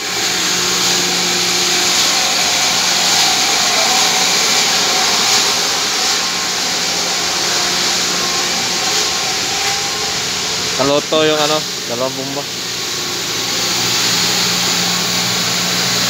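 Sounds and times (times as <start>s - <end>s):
electric pump motors whirring: 0.0s - 16.0s.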